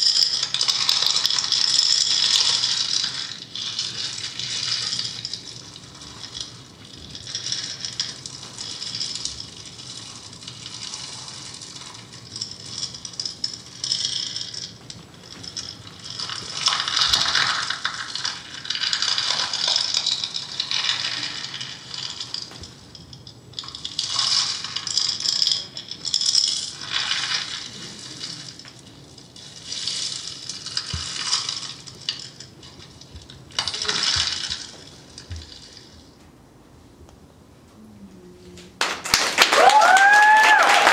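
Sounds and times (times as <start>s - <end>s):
rattle shaken: 0.0s - 36.1s.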